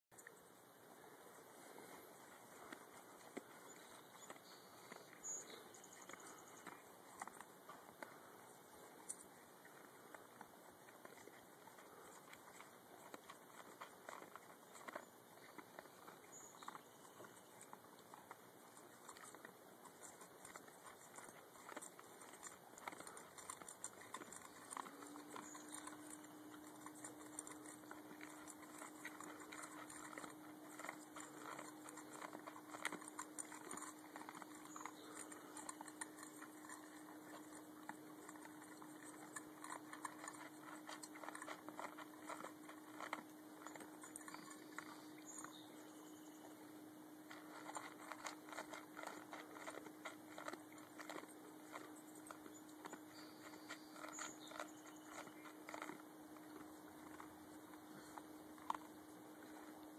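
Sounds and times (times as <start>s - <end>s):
dogs crunching dry kibble: 0.2s - 59.9s
steady low hum: 0.2s - 59.9s
kibble clicking against bowls: 9.0s - 46.2s, 47.2s - 59.0s.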